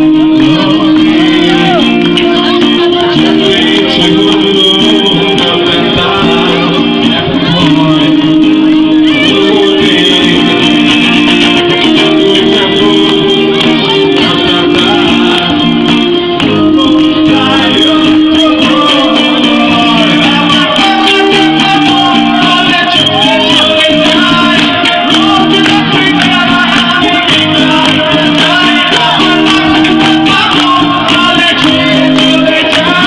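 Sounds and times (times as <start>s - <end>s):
guitars: 0.0s - 33.0s
keyboard: 0.0s - 33.0s
man singing: 0.0s - 33.0s.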